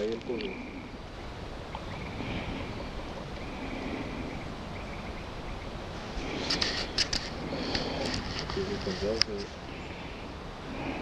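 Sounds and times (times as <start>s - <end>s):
fluctuating low rumble: 0.0s - 11.0s.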